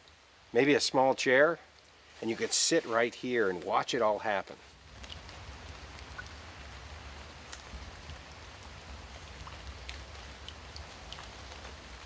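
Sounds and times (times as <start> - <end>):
water pattering and dripping: 0.0 - 12.0.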